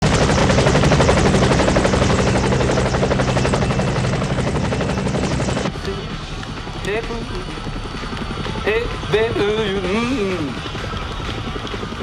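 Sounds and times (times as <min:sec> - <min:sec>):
helicopter rotor beating: 0:00.0 - 0:12.0.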